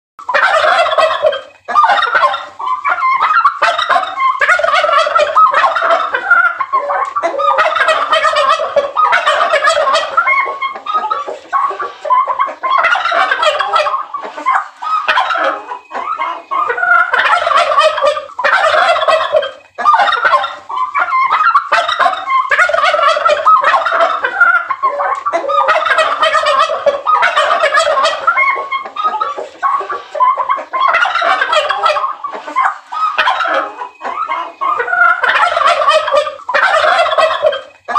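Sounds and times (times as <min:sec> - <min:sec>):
turkeys gobbling: 0:00.2 - 0:37.9.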